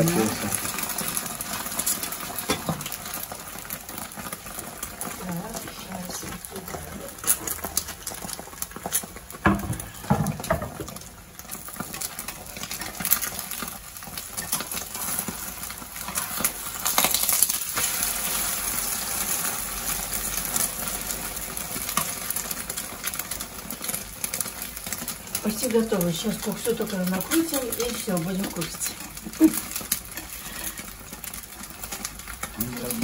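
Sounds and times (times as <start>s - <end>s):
omelette frying in pan: 0.0s - 33.0s.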